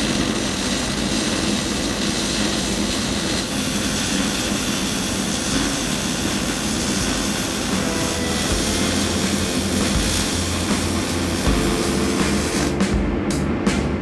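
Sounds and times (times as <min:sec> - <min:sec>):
welding arc hissing: 0:00.0 - 0:13.0.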